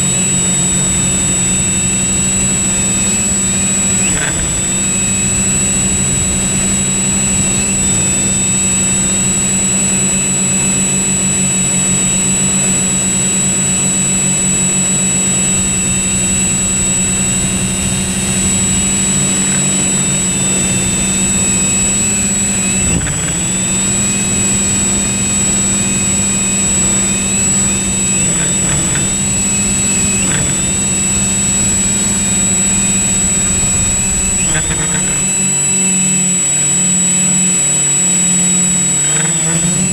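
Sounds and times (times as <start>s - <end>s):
high whistle: 0.0s - 39.0s
drone motors whining: 0.0s - 39.9s.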